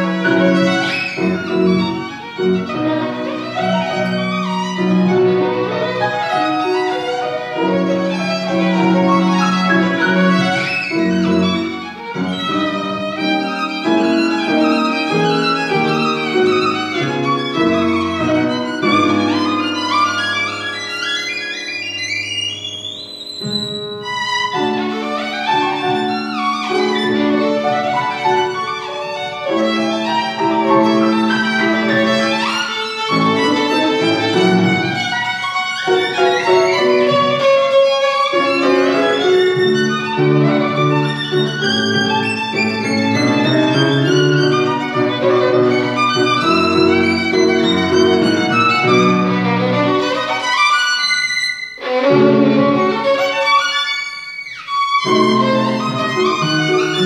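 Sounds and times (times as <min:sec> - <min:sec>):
piano accompaniment: 0:00.0 - 0:57.0
violin playing: 0:00.0 - 0:57.0.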